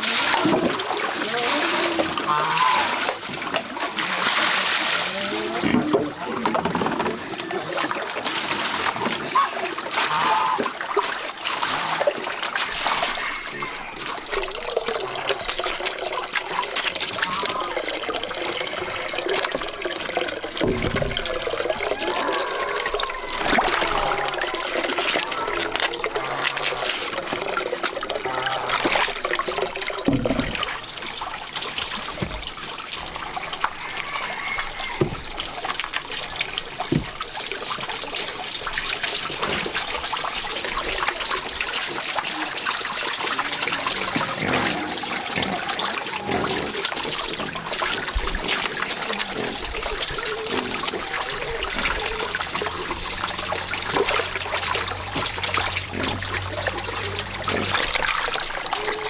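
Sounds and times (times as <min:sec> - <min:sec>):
water running and trickling: 0:00.0 - 0:59.0.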